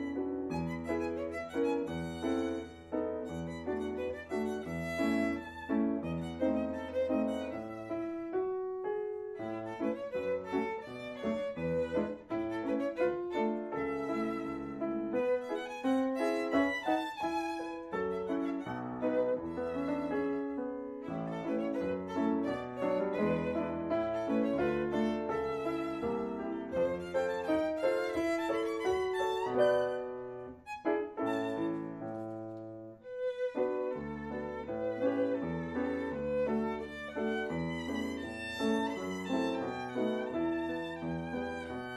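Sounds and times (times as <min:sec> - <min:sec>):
violin background music: 0:00.0 - 0:41.9.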